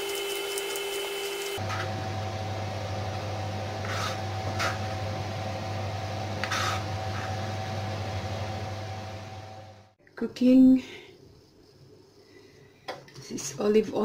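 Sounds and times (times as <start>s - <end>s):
low mechanical hum: 0.0s - 11.5s.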